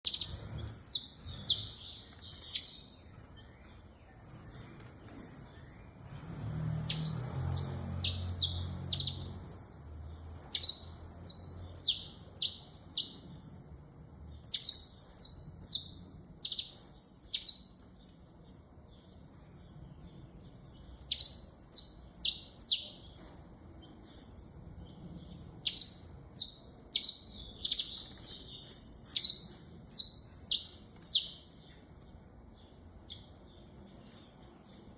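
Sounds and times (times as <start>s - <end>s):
finch singing: 0.0s - 6.0s, 6.6s - 34.9s.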